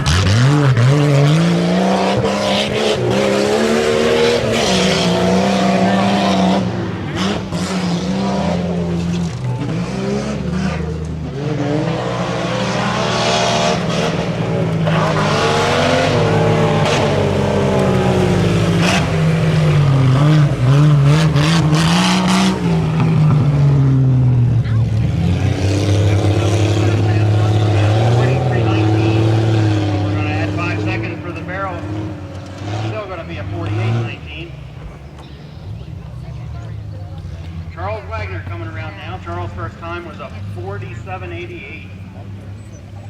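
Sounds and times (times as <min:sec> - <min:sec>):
truck engine revving hard: 0:00.0 - 0:43.0.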